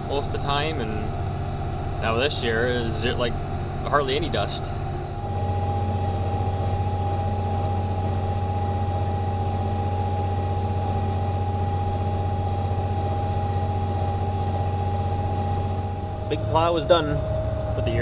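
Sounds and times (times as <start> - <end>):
steady high whine: 0.0 - 18.0
tractor engine droning: 0.0 - 18.0.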